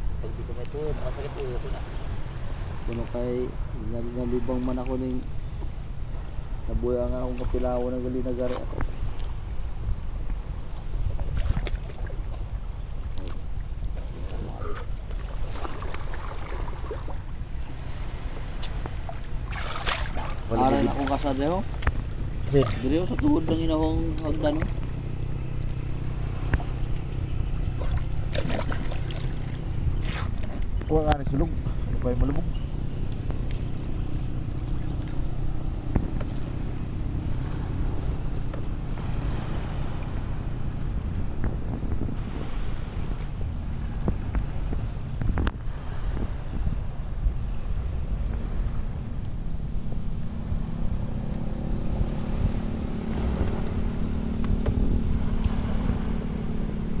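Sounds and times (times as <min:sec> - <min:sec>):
rush of water: 0:00.0 - 0:57.0
water lapping and trickling: 0:00.0 - 0:57.0
wind rumble on microphone: 0:00.0 - 0:57.0.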